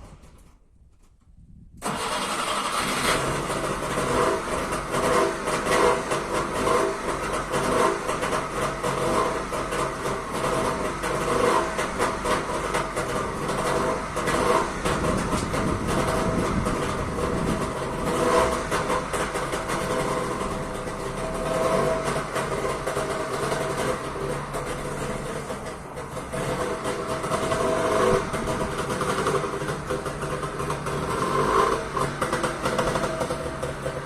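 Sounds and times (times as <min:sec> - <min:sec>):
two-stroke car engine running: 0:01.9 - 0:34.0.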